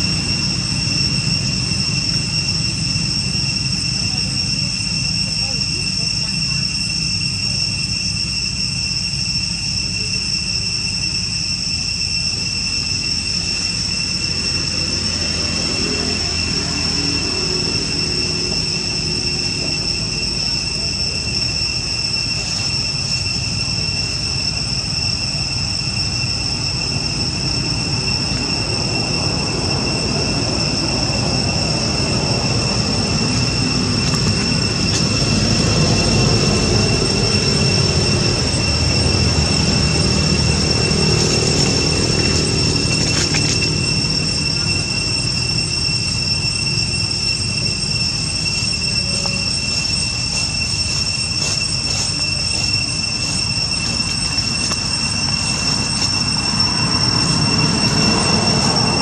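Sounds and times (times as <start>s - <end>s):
high-pitched insect drone: 0.0s - 59.0s.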